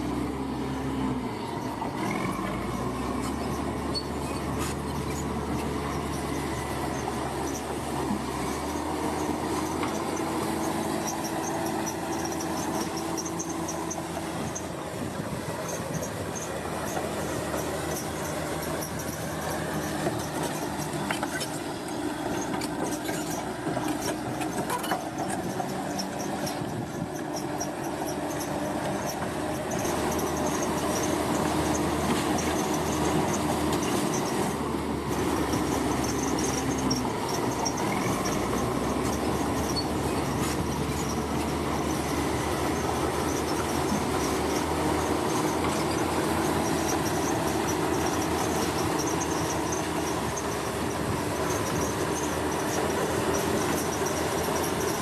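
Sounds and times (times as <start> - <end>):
heavy construction machinery running: 0.0 - 55.0.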